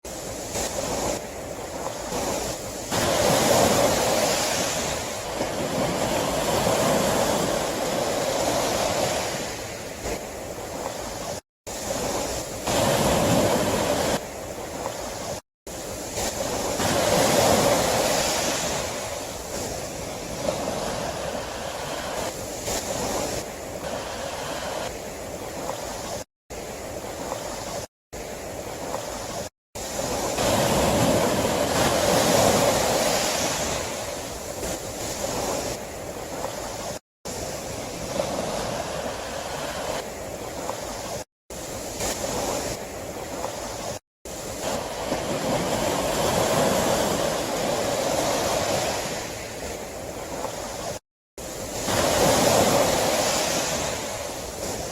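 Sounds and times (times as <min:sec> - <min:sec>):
sea waves surging: 0:00.0 - 0:54.9.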